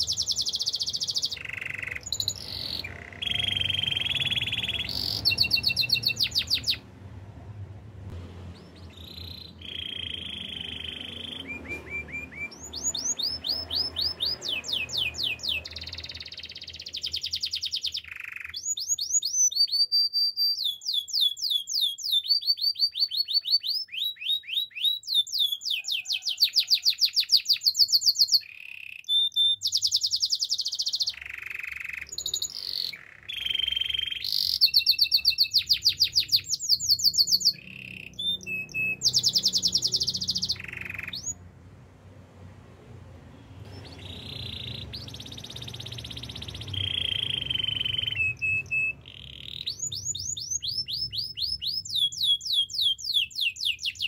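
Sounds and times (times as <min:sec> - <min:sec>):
canary singing trills: 0:00.0 - 0:07.0, 0:08.5 - 0:41.5, 0:43.5 - 0:54.0.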